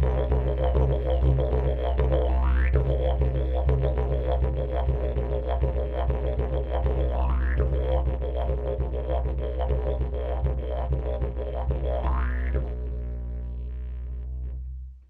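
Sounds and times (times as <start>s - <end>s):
didgeridoo drone: 0.0s - 15.0s.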